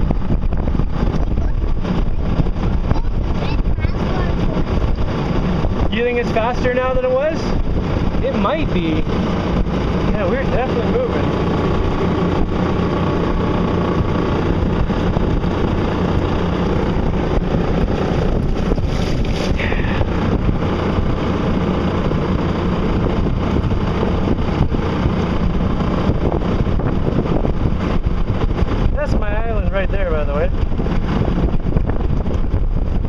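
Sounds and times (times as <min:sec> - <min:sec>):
water rushing past boat hull: 0:00.0 - 0:33.0
wind on microphone: 0:00.0 - 0:33.0.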